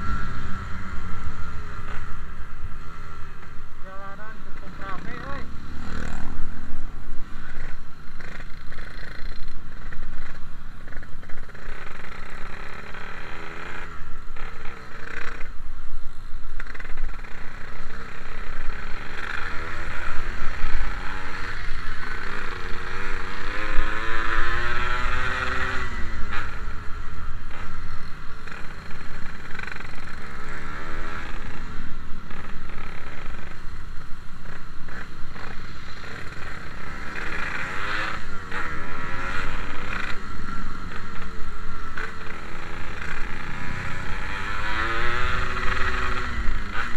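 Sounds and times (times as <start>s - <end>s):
two-stroke motorcycle engine: 0.0s - 15.6s, 16.6s - 46.9s.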